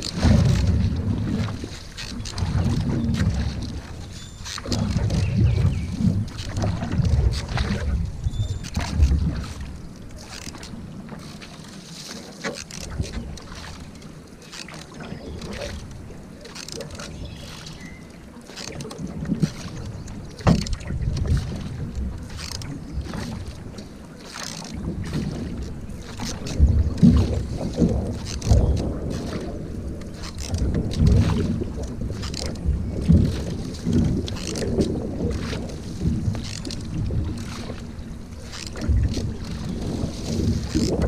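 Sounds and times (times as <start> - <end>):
wind rumble on microphone: 0.0 - 11.5, 18.8 - 24.0, 24.6 - 41.0
paddle strokes splashing in water: 0.0 - 41.0.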